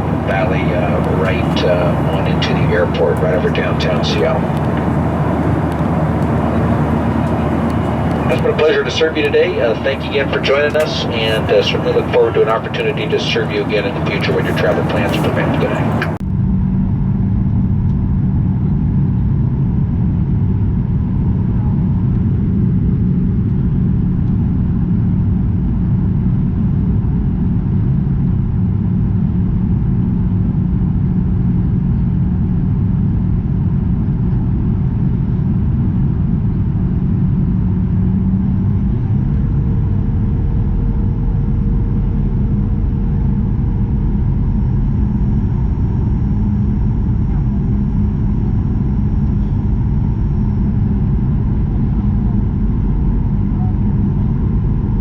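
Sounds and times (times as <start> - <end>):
steady hum: 0.0 - 24.4, 28.6 - 55.0
airplane cabin engine rumble: 0.0 - 55.0.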